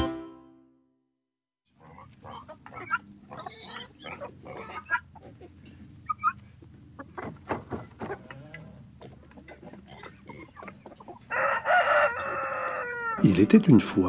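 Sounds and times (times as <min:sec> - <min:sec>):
chickens clucking: 0:01.8 - 0:13.7.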